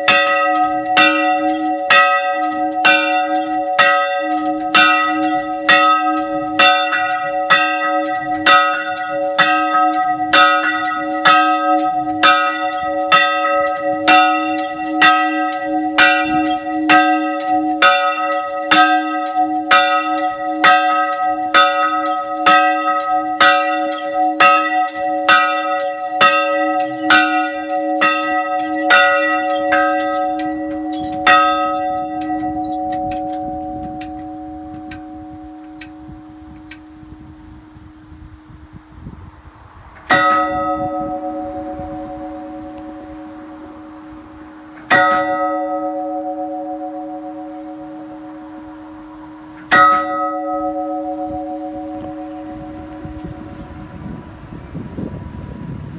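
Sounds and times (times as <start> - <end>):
church bell ringing: 0.0 - 55.9.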